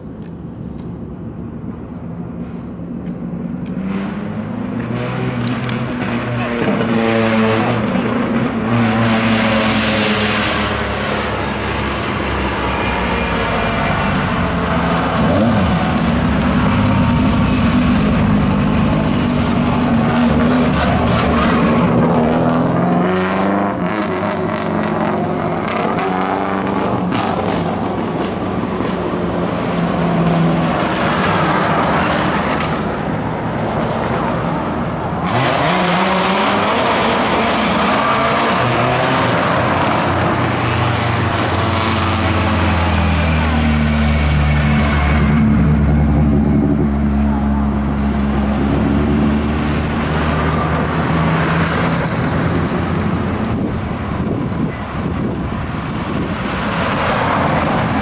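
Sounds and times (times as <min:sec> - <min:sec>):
race cars at full throttle: 0:00.0 - 0:58.0.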